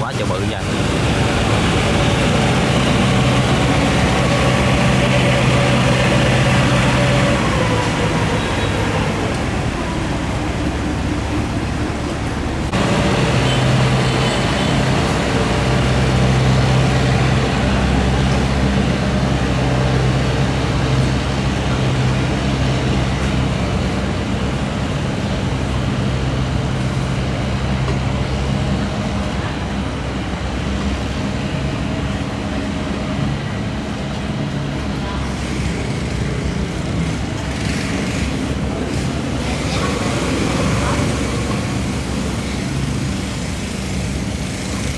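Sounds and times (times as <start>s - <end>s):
boat engine humming: 0.0s - 44.9s.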